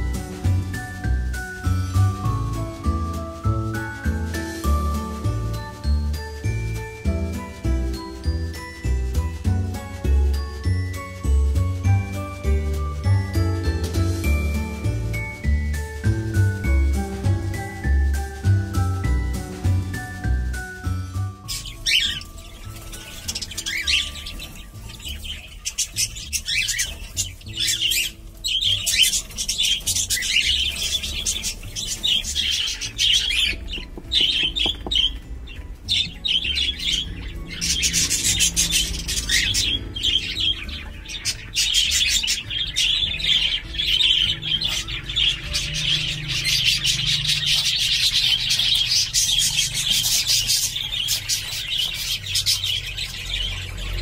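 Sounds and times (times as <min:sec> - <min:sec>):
pet birds chirping: 0:00.0 - 0:54.0.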